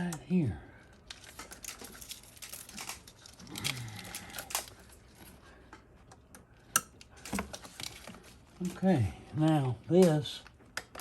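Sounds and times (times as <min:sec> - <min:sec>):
wiring rustling: 0:00.0 - 0:11.0.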